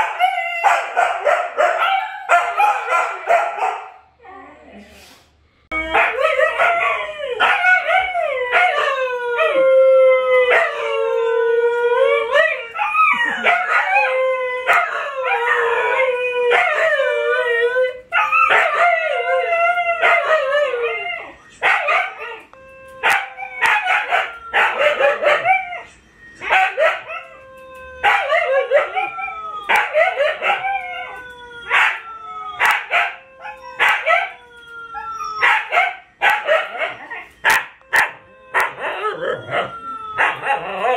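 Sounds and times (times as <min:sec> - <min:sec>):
dogs howling: 0:00.0 - 0:04.6, 0:05.7 - 0:40.9.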